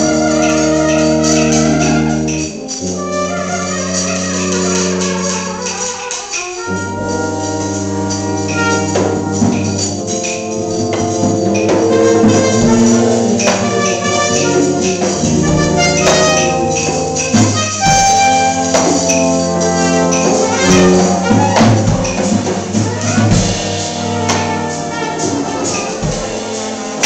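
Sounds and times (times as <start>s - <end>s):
brass band playing: 0.0s - 27.0s
drum and cymbal hits: 0.0s - 27.0s
horn line sliding downward: 0.0s - 27.0s.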